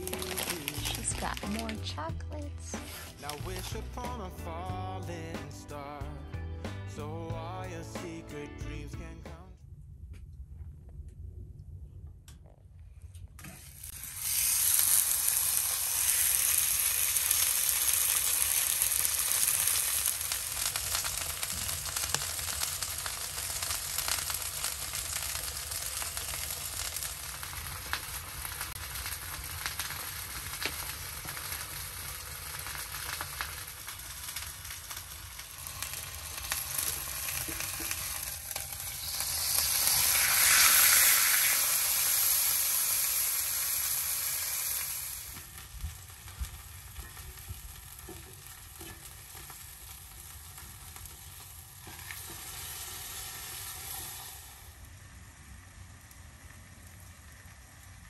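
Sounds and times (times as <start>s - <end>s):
food sizzling in a pan: 0.0s - 1.8s, 2.8s - 4.3s, 13.5s - 58.0s.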